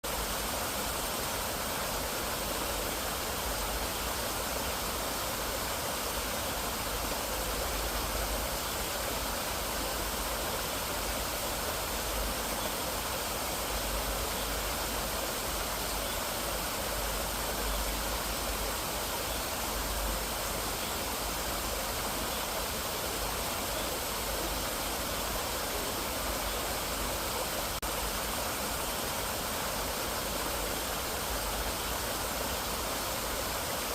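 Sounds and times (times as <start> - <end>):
stream rushing: 0.0 - 33.9.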